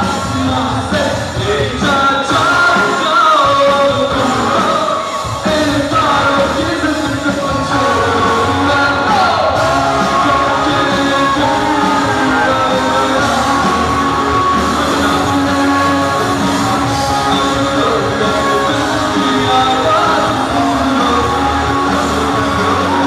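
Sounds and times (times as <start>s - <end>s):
drum kit: 0.0s - 23.0s
electric guitar: 0.0s - 23.0s
male singer singing: 0.0s - 23.0s.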